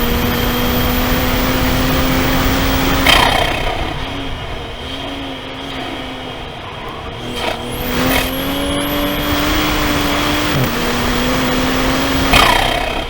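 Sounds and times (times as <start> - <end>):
car engine under load: 0.0 - 4.5, 6.7 - 13.0
road and spray noise: 0.0 - 13.0.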